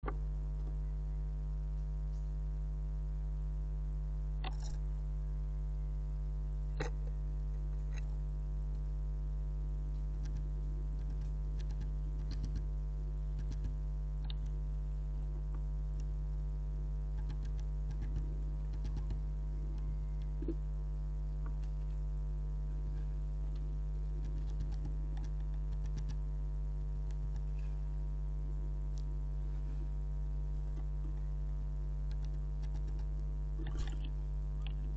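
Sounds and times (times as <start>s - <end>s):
steady electrical hum: 0.0s - 34.9s.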